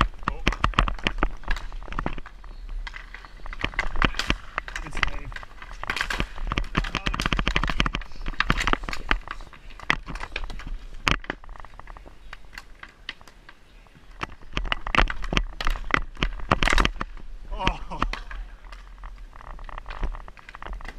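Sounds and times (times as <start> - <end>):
hockey sticks and puck clacking: 0.0 - 20.9.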